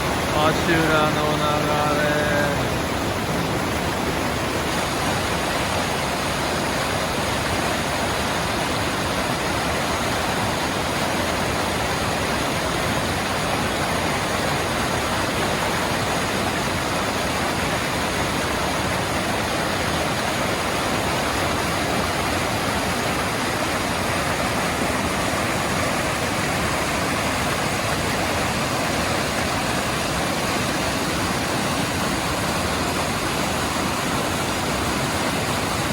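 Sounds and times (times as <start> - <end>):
stream rushing over rapids: 0.0 - 35.9.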